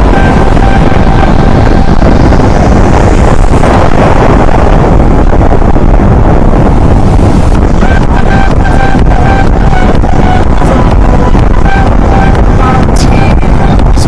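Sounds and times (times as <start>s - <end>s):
motorcycle engine at road speed: 0.0s - 14.0s
wind noise on microphone: 0.0s - 14.0s.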